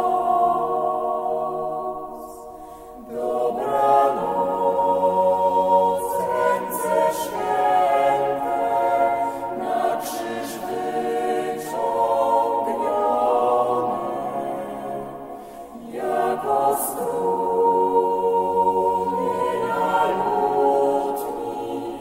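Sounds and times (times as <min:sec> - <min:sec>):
choir singing without instruments: 0:00.0 - 0:22.0.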